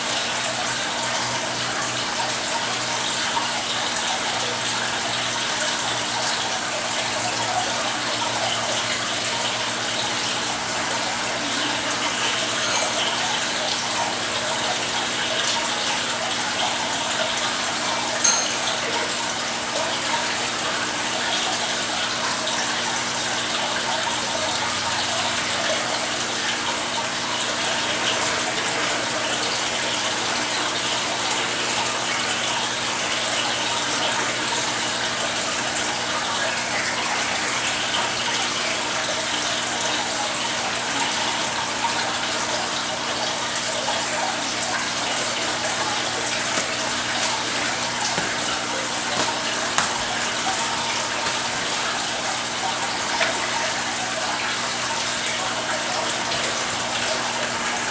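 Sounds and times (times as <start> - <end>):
water pouring into tank: 0.0 - 57.9.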